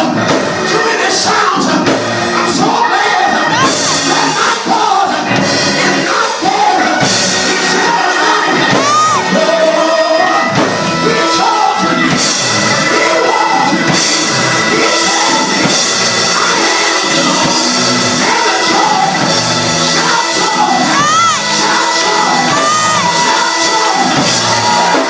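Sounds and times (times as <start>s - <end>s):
congregation shouting and whooping: 0.0s - 25.0s
gospel music with singing: 0.0s - 25.0s.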